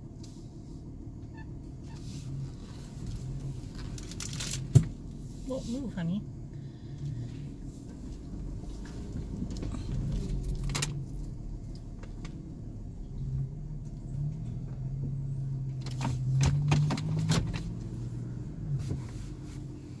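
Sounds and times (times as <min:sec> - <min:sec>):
car engine running at low speed: 0:00.0 - 0:20.0.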